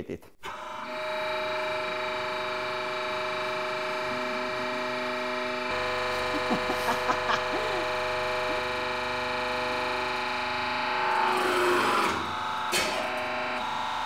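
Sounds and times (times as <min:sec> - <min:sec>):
hydraulic press humming: 0:00.4 - 0:14.0.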